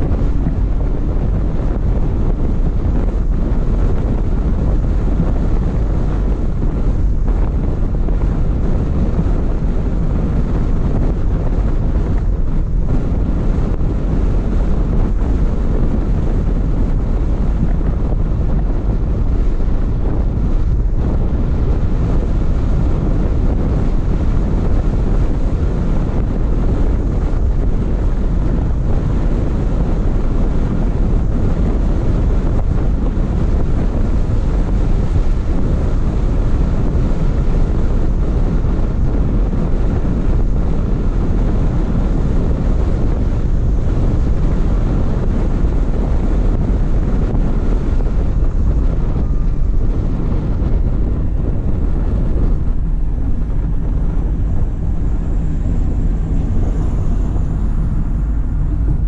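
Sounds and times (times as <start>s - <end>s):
road noise: 0.0s - 59.0s
wind rumble on microphone: 0.0s - 59.0s.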